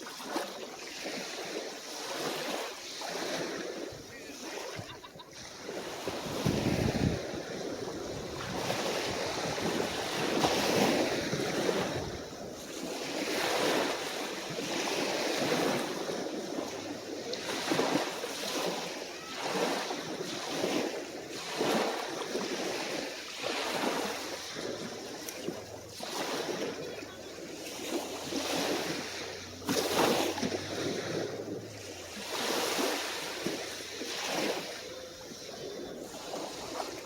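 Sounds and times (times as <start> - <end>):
small waves washing onto beach: 0.0 - 37.0.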